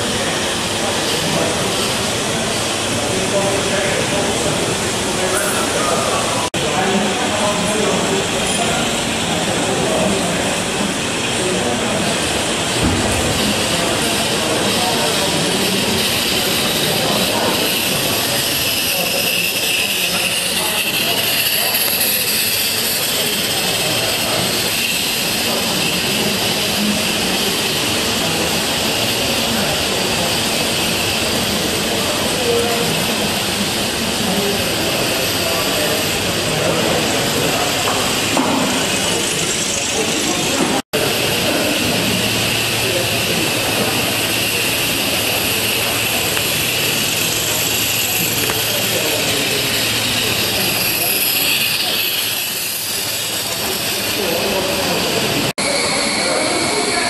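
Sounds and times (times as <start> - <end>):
faint voices: 0.0 - 57.0
steam locomotive hissing: 0.0 - 57.0.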